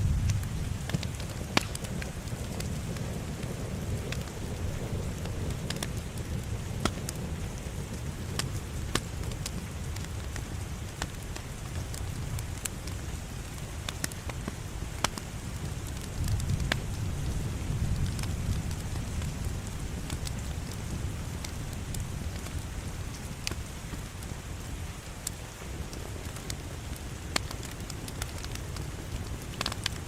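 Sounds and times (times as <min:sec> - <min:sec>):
fire pops: 0:00.0 - 0:24.4, 0:26.0 - 0:30.0
wood fire crackling: 0:00.0 - 0:30.0.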